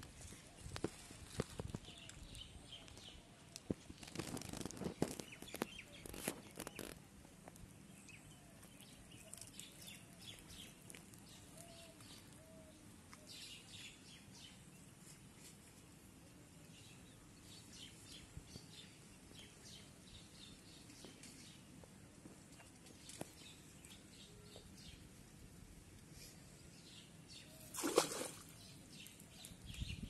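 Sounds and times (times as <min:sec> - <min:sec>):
small birds chirping: 0:00.6 - 0:07.0, 0:07.6 - 0:15.2, 0:16.7 - 0:25.2, 0:26.1 - 0:30.0.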